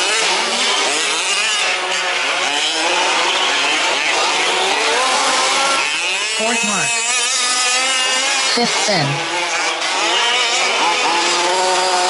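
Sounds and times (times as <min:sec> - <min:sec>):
small engines whining: 0:00.0 - 0:12.0.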